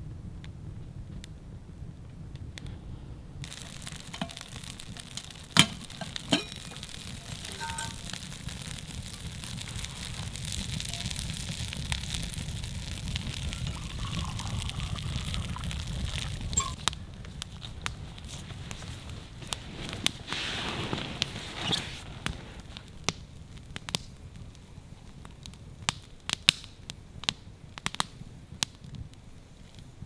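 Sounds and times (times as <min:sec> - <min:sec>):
campfire crackling and hissing: 0:00.0 - 0:30.0.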